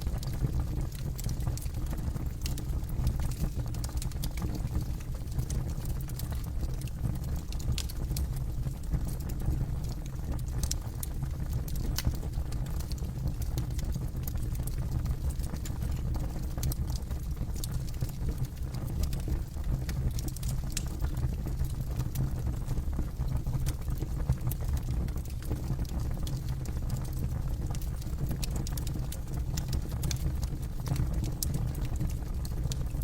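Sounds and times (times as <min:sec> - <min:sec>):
burning wood crackling and popping: 0:00.0 - 0:33.0
campfire rumble: 0:00.0 - 0:33.0.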